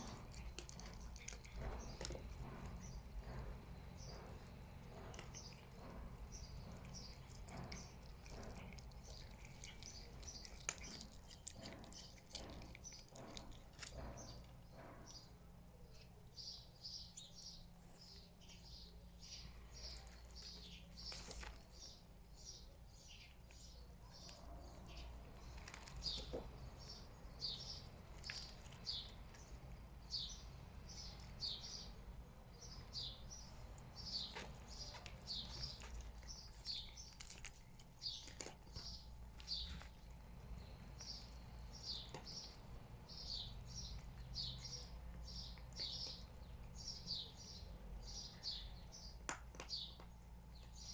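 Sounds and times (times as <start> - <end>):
small bird chirping: 0.0 - 50.9.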